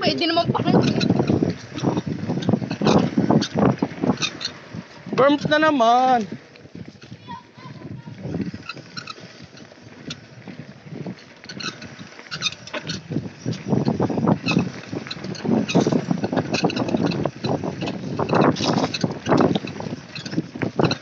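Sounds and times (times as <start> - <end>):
bike rattling: 0.0 - 21.0
bike tyres rumbling over leaves: 0.0 - 21.0
wind buffeting microphone: 0.0 - 21.0.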